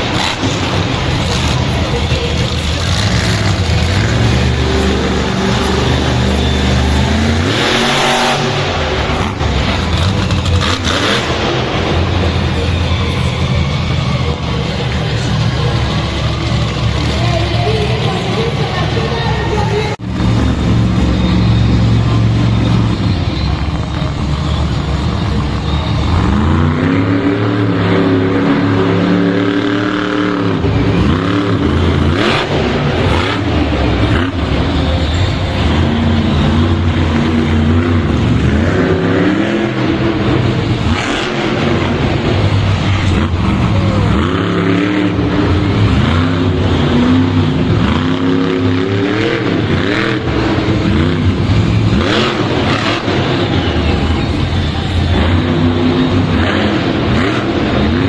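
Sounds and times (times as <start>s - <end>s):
monster truck engine revving: 0.0s - 58.0s.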